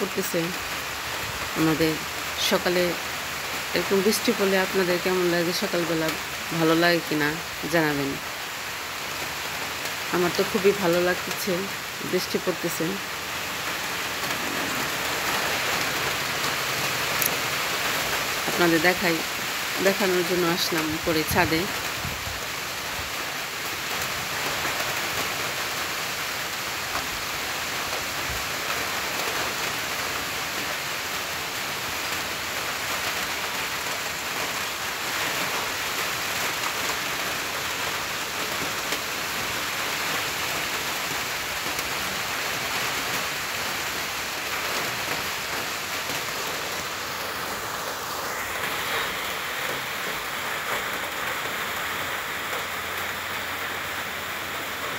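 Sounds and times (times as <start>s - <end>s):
rain on concrete roof: 0.0s - 54.9s
rain splashing in water: 0.0s - 54.9s.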